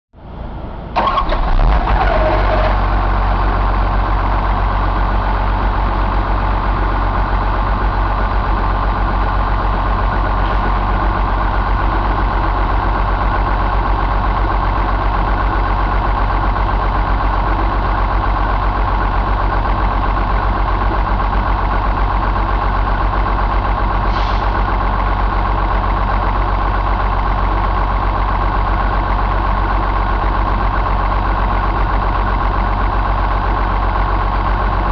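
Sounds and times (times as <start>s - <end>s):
diesel engine starting and idling: 0.2s - 34.9s.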